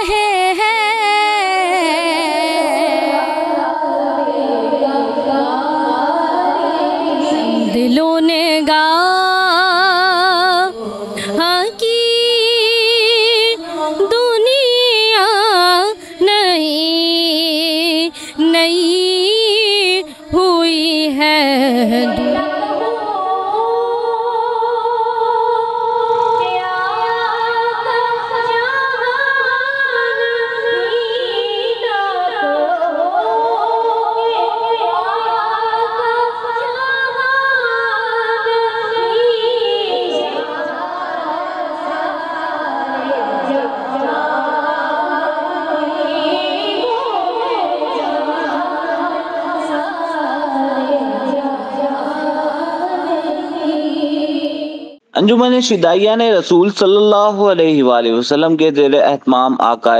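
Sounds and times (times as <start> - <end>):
women singing unaccompanied: 0.0 - 55.0.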